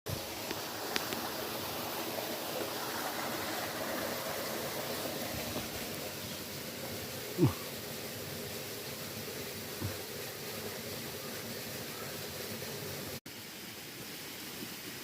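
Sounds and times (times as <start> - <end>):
stream water running over rocks: 0.1 - 15.0.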